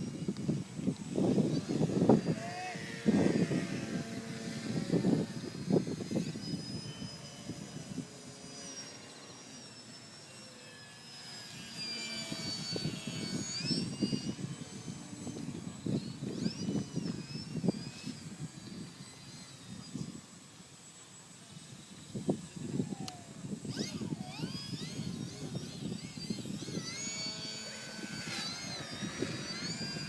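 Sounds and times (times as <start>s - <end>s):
wind buffeting microphone: 0.0s - 9.0s, 11.7s - 20.4s, 21.5s - 30.0s
model plane propeller whining: 0.0s - 30.0s.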